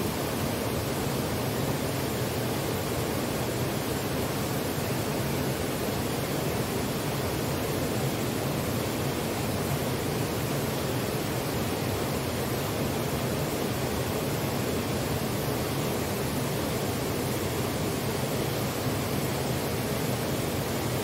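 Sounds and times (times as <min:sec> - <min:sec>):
waterfall roar: 0:00.0 - 0:21.0.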